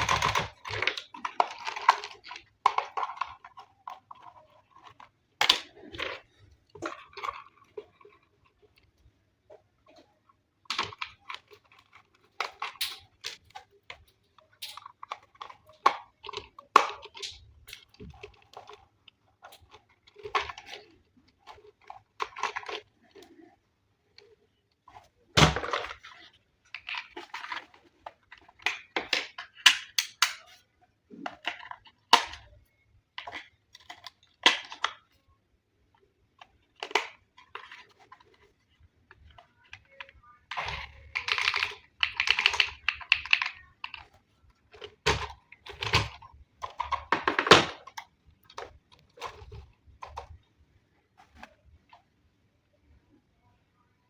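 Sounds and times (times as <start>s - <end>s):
toy packaging crinkling: 0.0s - 51.9s.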